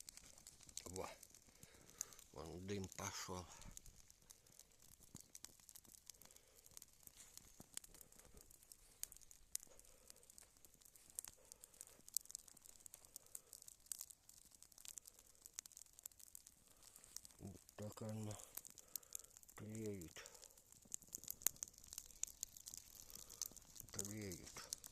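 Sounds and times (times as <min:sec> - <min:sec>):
sharp pops: 0:00.0 - 0:24.9
smouldering campfire crackling: 0:00.0 - 0:24.9.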